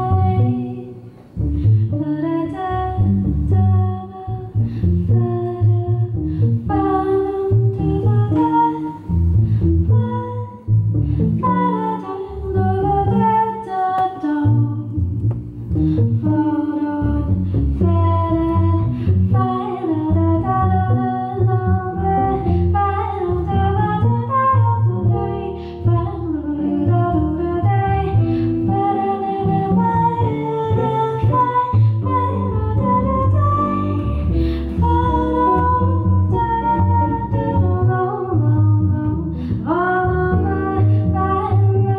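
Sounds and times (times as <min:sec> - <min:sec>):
woman singing: 0:00.0 - 0:01.1, 0:01.9 - 0:09.2, 0:09.9 - 0:10.7, 0:11.4 - 0:15.2, 0:16.2 - 0:41.9
plucked double bass: 0:00.0 - 0:41.9.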